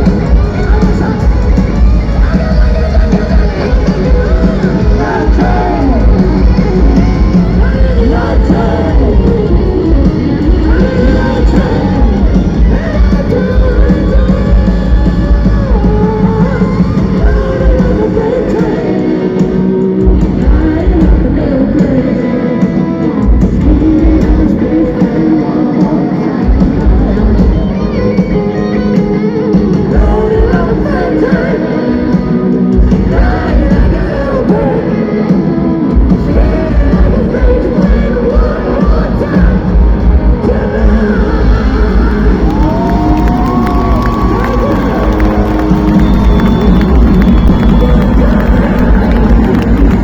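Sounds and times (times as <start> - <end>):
electric guitar: 0.0 - 50.0
heavy bass: 0.0 - 50.0
live rock music: 0.0 - 50.0
person singing: 0.0 - 50.0.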